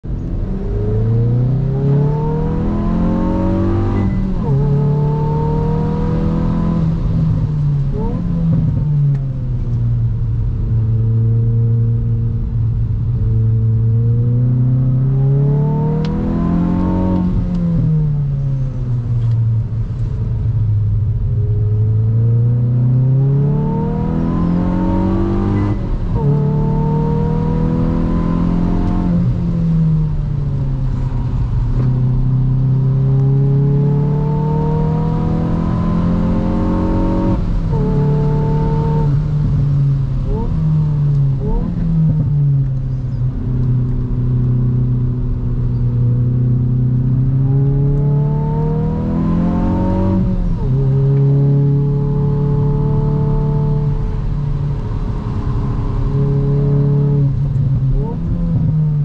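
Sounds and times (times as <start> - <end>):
car engine revving through gears: 0.1 - 9.7, 13.1 - 19.8, 21.5 - 59.0.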